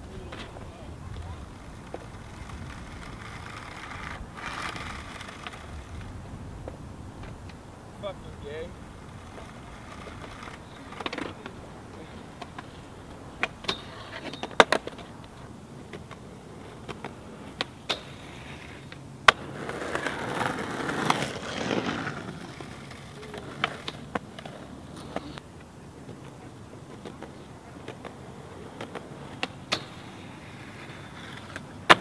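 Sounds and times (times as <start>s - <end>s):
skateboard clacking on ground: 0.0s - 32.0s
skateboard wheels rolling on concrete: 0.0s - 32.0s.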